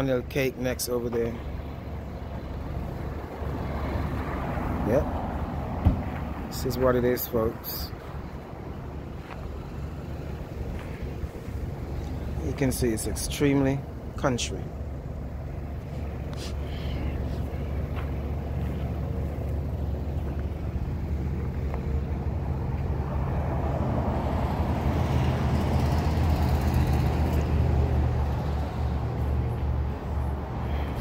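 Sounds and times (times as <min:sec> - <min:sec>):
vehicle engine hum: 0:00.0 - 0:31.0.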